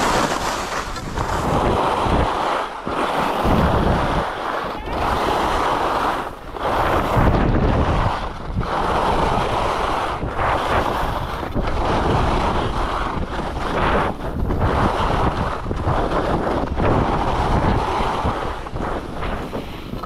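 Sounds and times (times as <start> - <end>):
skis scraping over snow: 0.0 - 20.0
wind buffeting microphone: 0.0 - 20.0.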